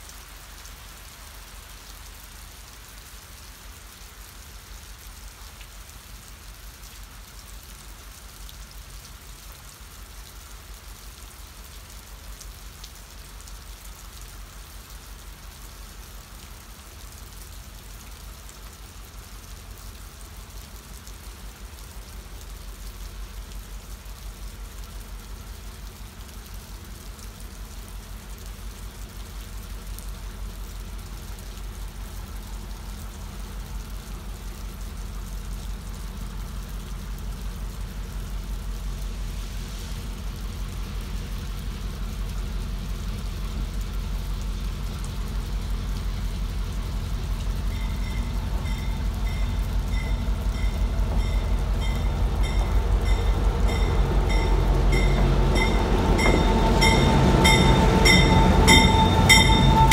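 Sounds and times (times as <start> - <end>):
light rain falling: 0.0 - 59.9
diesel locomotive rumble: 11.5 - 59.9.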